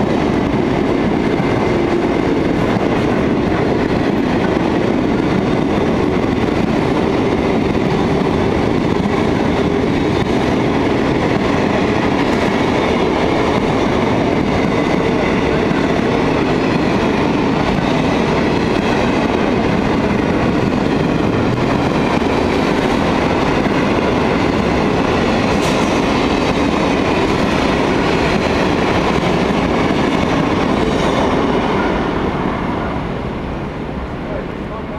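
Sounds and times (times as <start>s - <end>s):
freight train wheels on rails: 0.0s - 34.9s.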